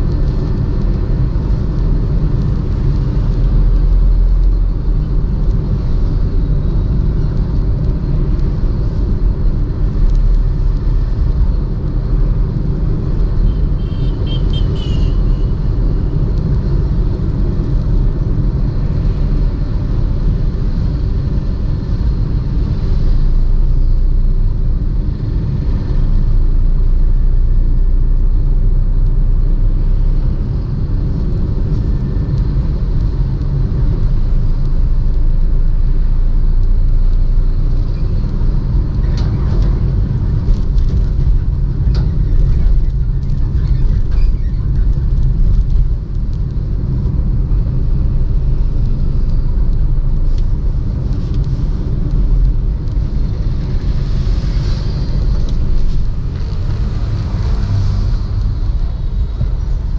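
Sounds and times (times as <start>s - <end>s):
car driving on highway: 0.0s - 59.9s.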